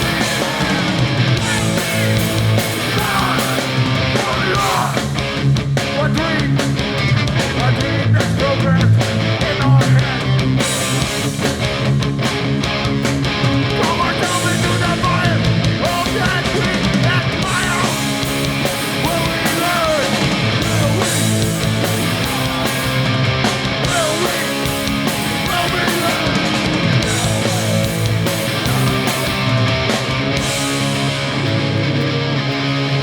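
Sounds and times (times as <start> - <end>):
hardcore punk band playing live: 0.0 - 33.0.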